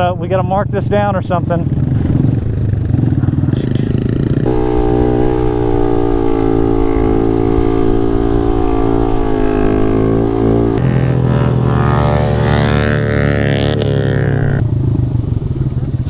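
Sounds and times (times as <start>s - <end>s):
motorcycle engine running: 1.8s - 16.0s.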